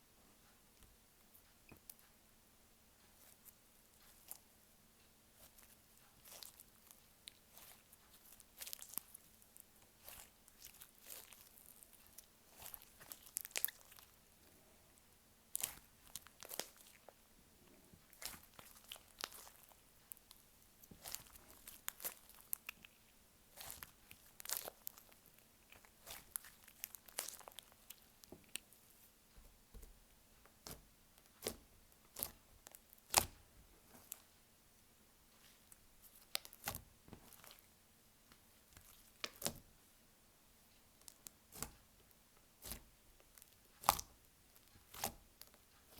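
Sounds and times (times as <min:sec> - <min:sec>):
slime squishing: 0:03.2 - 0:04.5, 0:05.3 - 0:14.7, 0:15.5 - 0:29.0, 0:29.6 - 0:34.3, 0:35.3 - 0:37.8, 0:38.4 - 0:39.7, 0:40.9 - 0:45.9.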